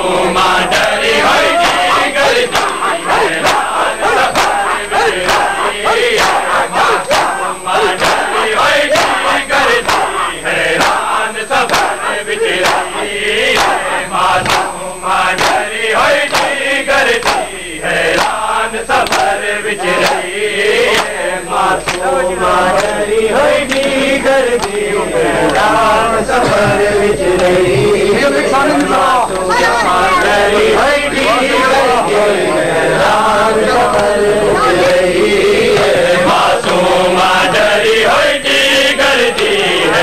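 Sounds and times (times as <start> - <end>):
men chanting in unison: 0.0 - 40.0.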